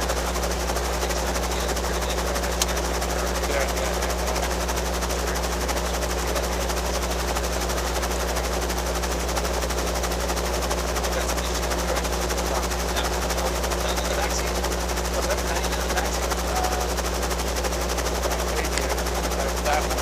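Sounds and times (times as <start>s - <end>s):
helicopter engine and rotors drone: 0.0s - 20.0s.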